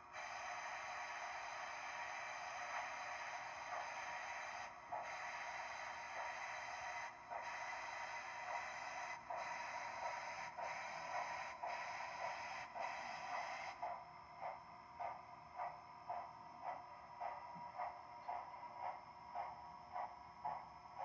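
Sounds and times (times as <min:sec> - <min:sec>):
model steam locomotive hissing: 0:00.0 - 0:21.0.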